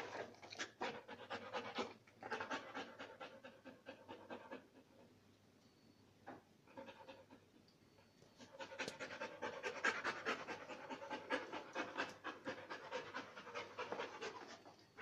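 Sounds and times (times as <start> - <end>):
dog panting: 0.0 - 5.1, 6.7 - 7.6, 8.4 - 15.0.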